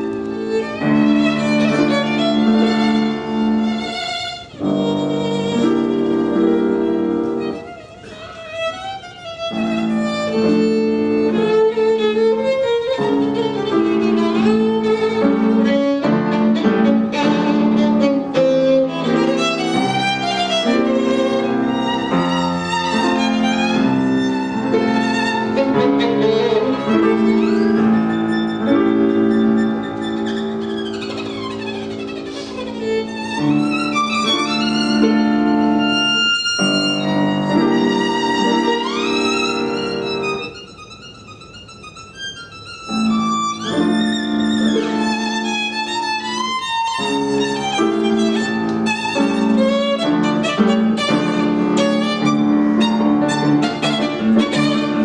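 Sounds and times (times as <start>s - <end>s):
piano accompaniment: 0.0s - 55.0s
violin playing: 0.0s - 55.0s.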